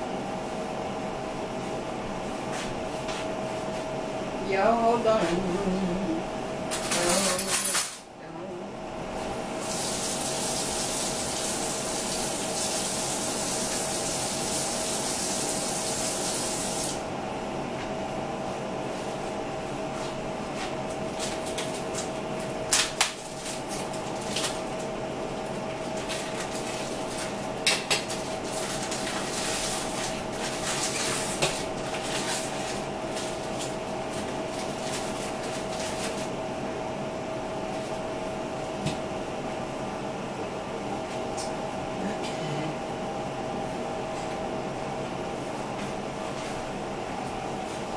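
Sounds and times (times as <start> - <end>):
constant hum: 0.0 - 9.6, 17.0 - 47.9.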